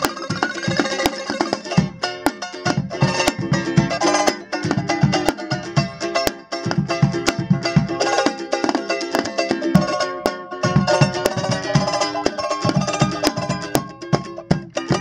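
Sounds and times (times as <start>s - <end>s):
drum beaten in sharp strokes: 0.0s - 15.0s
ukuleles strummed briskly: 0.0s - 15.0s.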